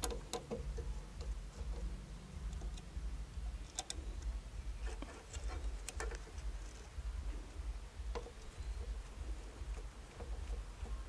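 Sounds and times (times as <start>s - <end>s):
low rumble: 0.6s - 11.0s.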